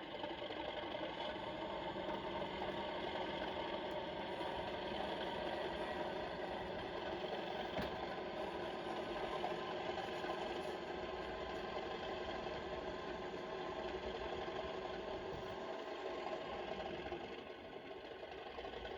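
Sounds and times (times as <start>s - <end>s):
diesel engine sound from small speaker: 0.0s - 18.9s.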